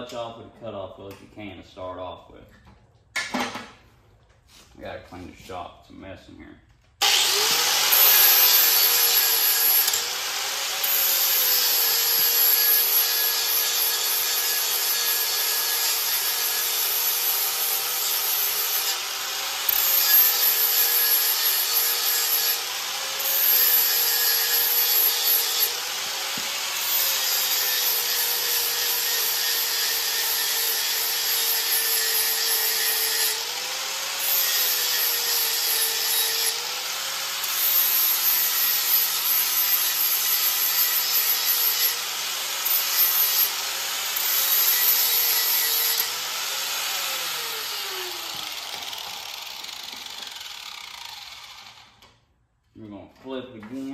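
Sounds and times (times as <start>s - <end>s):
angle grinder grinding metal: 7.0s - 52.3s.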